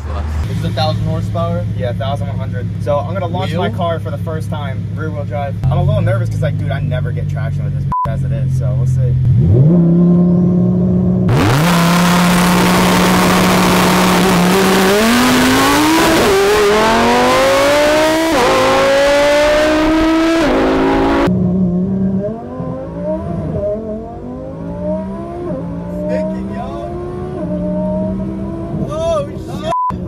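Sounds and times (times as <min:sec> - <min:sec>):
sports car engine revving: 0:00.0 - 0:29.5.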